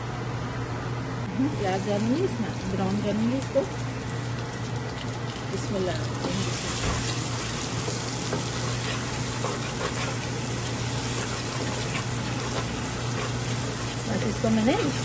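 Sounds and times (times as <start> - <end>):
onions sizzling in oil: 1.5 - 15.0.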